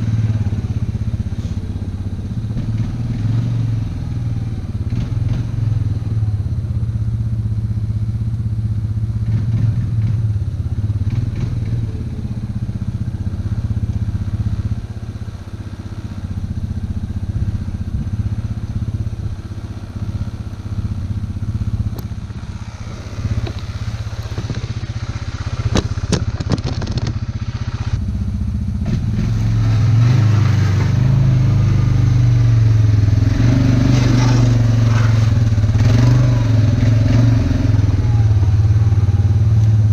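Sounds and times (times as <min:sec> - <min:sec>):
plow blade pushing snow: 0:00.0 - 0:07.7, 0:09.1 - 0:39.9
atv engine running: 0:00.0 - 0:39.9.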